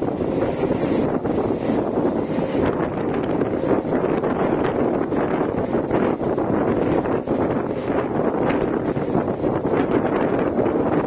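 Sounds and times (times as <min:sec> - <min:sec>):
train rumbling on rails: 0:00.0 - 0:11.0
wind rushing over microphone: 0:00.0 - 0:11.0.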